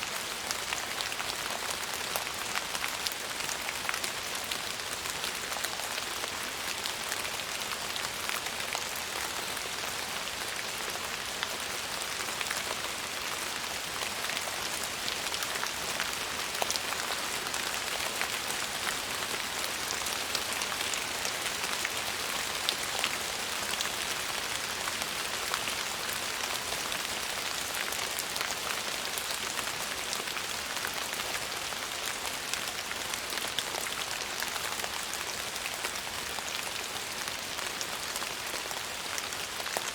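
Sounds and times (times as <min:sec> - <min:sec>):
rain falling on surface: 0:00.0 - 0:39.9.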